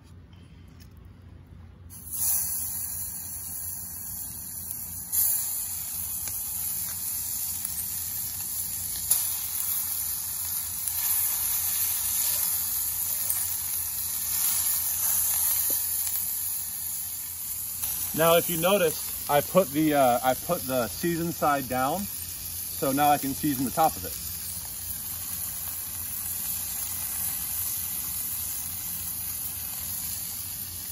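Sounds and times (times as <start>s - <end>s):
fish sizzling in hot oil: 1.9s - 30.9s.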